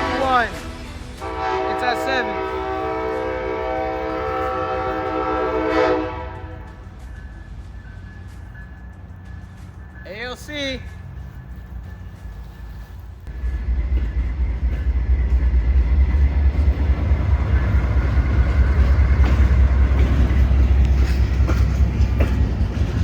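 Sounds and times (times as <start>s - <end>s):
diesel train rumbling past: 0.0s - 23.0s.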